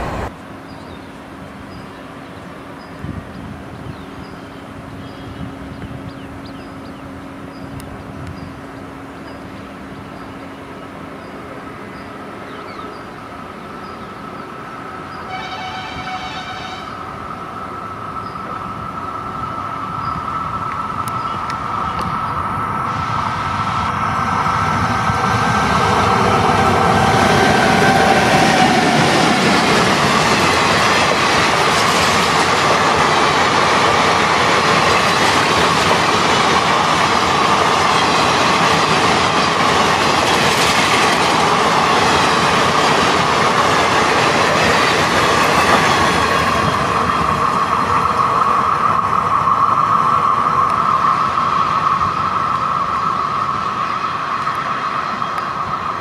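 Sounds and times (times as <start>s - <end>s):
electric locomotive whine: 0.0s - 56.0s.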